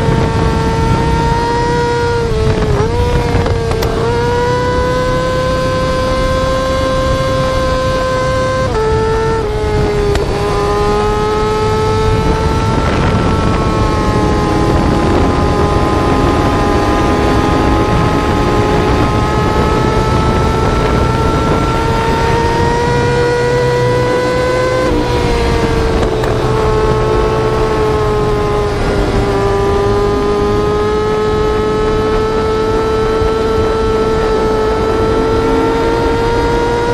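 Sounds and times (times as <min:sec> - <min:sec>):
motorcycle engine revving high: 0:00.0 - 0:36.9.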